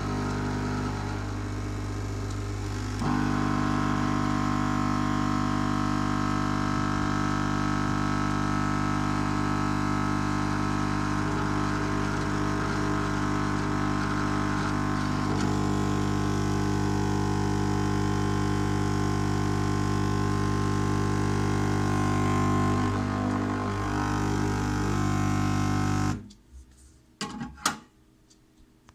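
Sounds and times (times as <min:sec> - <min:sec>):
air pump humming and vibrating: 0:00.0 - 0:26.3.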